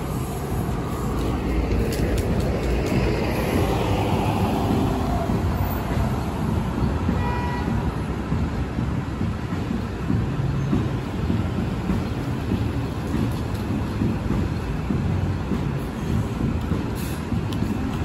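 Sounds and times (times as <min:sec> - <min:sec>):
bus engine pulling away: 0:00.0 - 0:07.1, 0:09.9 - 0:18.0
street traffic rumble: 0:00.0 - 0:18.0.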